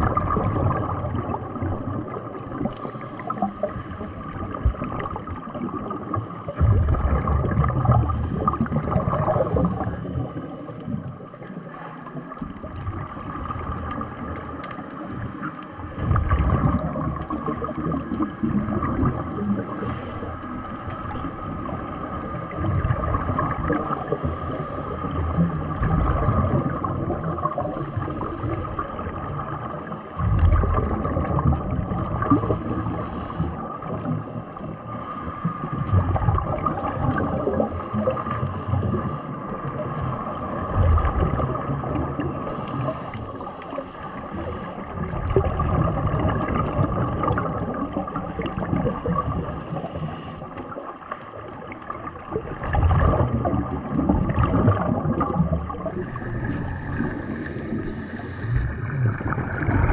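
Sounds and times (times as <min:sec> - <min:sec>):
regulator exhaust bubbles underwater: 0:00.0 - 0:59.9
underwater water noise: 0:00.0 - 0:59.9.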